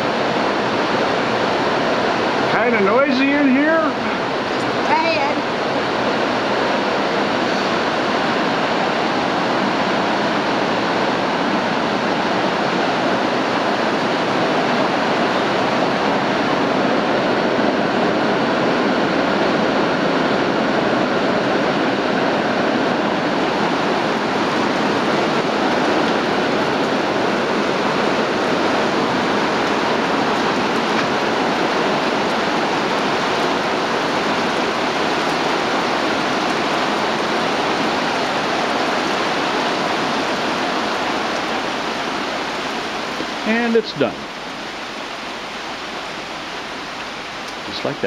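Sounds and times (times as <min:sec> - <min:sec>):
heavy rain on a tin roof: 0:00.0 - 0:48.0.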